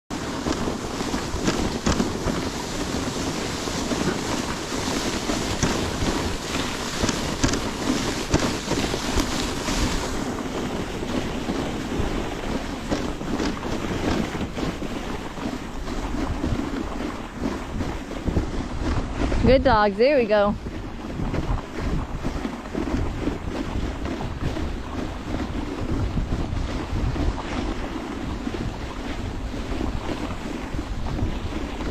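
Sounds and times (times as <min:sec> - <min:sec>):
sled runners rushing on snow: 0:00.1 - 0:31.9
wind on microphone: 0:00.1 - 0:31.9.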